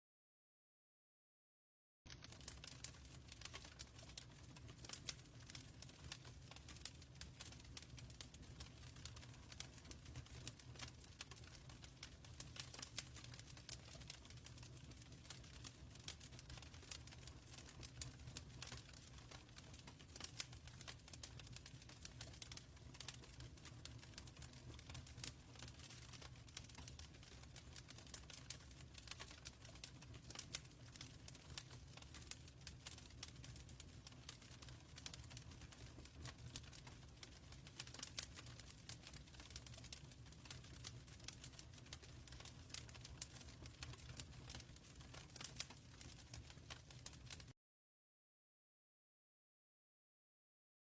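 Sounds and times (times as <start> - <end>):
wood fire crackling: 2.1 - 47.5.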